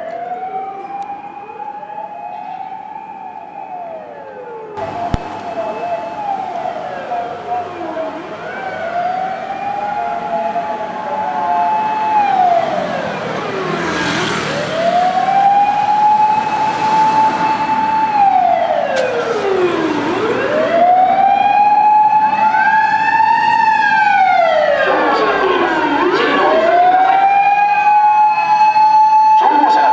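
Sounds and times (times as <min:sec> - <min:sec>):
motor siren wailing: 0:00.0 - 0:29.9.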